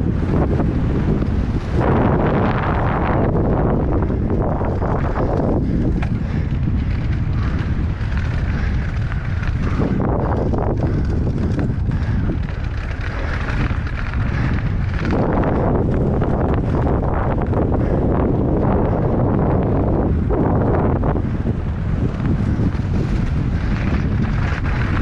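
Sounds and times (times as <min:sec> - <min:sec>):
bike rattling over dirt trail: 0:00.0 - 0:25.0
heavy wind rush on microphone: 0:00.0 - 0:25.0.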